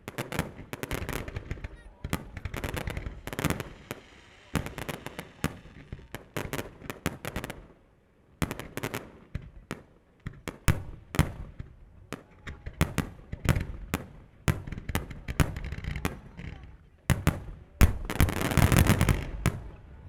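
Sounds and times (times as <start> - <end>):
fireworks bursting with sharp bangs: 0.0 - 20.0.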